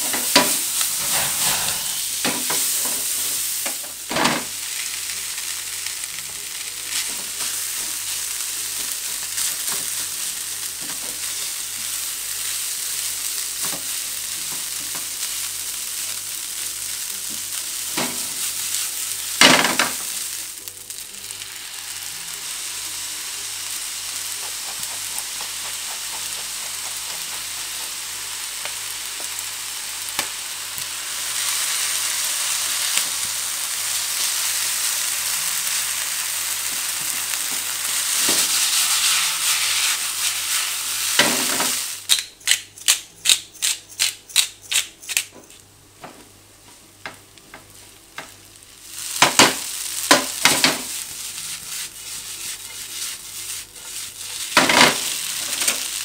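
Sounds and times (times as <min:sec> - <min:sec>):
fried rice sizzling in a pan: 0:00.0 - 0:42.1, 0:46.7 - 0:56.0.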